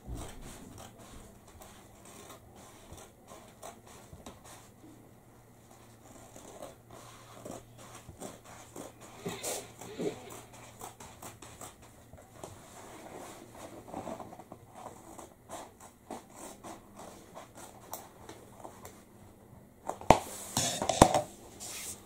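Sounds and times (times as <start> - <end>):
fabric rustling and scraping on floor: 0.0 - 19.1, 20.1 - 22.0.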